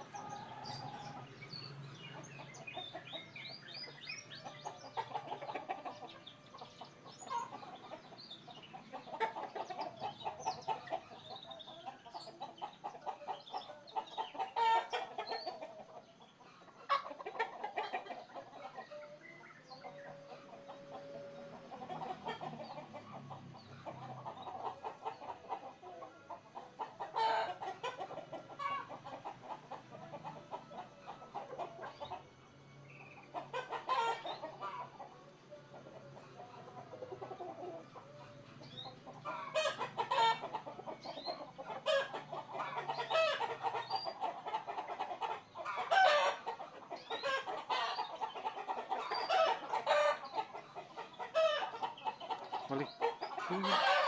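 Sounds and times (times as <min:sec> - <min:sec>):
chickens clucking: 0:00.0 - 0:54.0
small birds chirping: 0:00.0 - 0:54.0.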